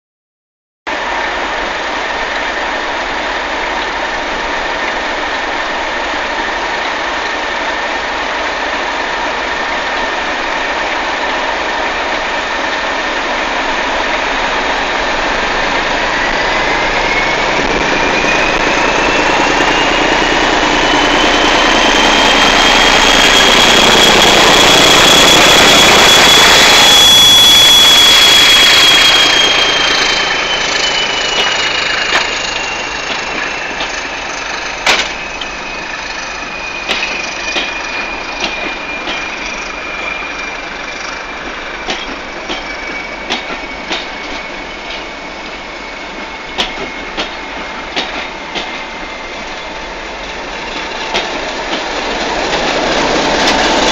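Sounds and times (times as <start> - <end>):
diesel locomotive engine: 0.9 - 53.9
train coaches rolling past: 0.9 - 53.9
rising whine: 9.4 - 53.9.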